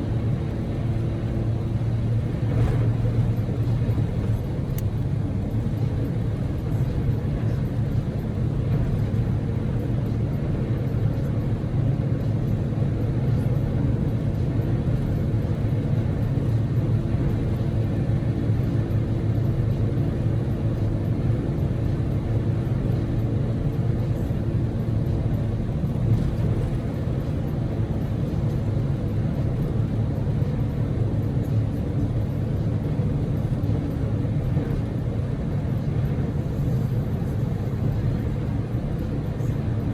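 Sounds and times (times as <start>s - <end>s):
car engine drone: 0.0s - 39.9s.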